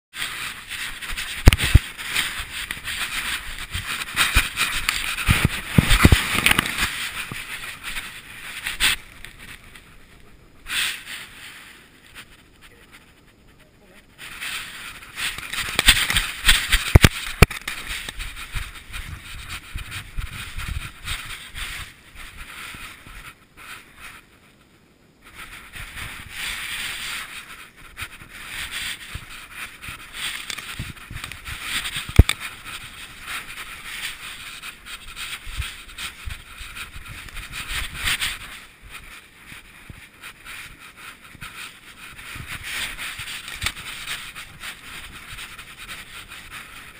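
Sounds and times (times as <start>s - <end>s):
camera rubbing and scraping: 0.1s - 24.6s, 25.2s - 46.9s.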